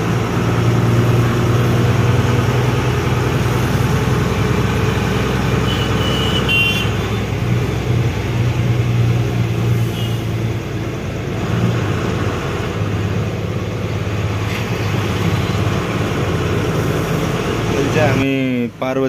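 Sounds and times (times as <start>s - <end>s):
road noise: 0.0s - 19.0s
truck engine running: 0.0s - 19.0s.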